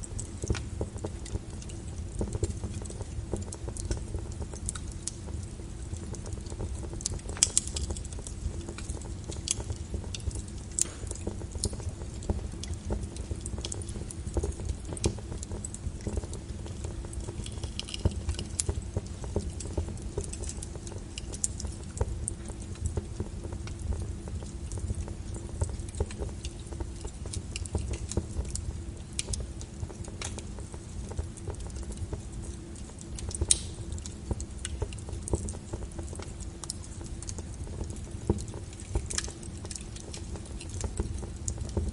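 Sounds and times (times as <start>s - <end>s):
fire crackling and popping: 0.0s - 41.9s
fire rumbling: 0.0s - 41.9s.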